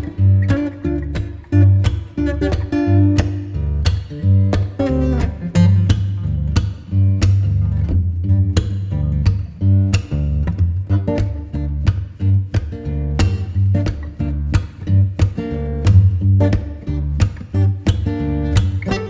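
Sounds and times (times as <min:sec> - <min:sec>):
plucked acoustic guitar: 0:00.0 - 0:19.0
steady bass line: 0:00.0 - 0:19.0.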